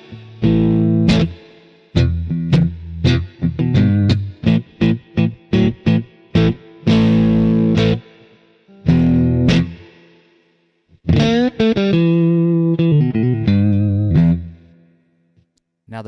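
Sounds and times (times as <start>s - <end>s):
overdriven electric guitar chords: 0.0s - 10.3s, 10.9s - 15.0s.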